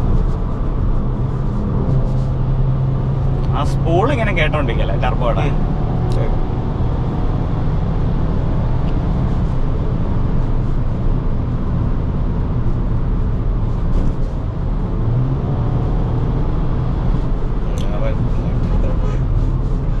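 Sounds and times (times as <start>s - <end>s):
car engine running: 0.0s - 20.0s
road noise inside car: 0.0s - 20.0s.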